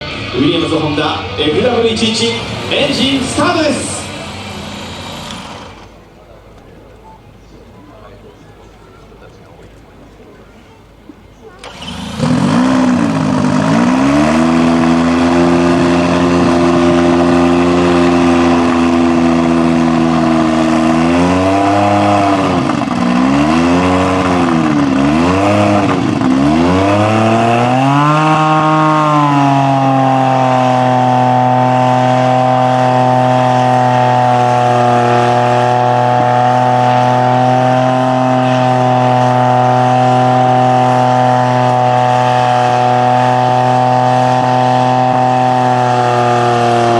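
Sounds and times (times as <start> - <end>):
racing car engine idling and revving: 0.0 - 7.0, 10.8 - 46.9.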